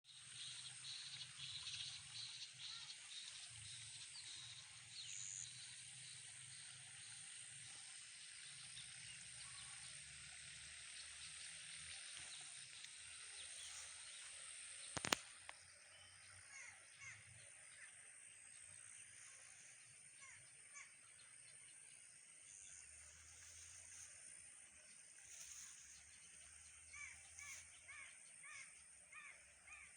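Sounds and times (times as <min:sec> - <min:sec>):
small birds chirping: 0:00.1 - 0:24.2, 0:24.8 - 0:29.9
steady high hiss: 0:00.1 - 0:29.9.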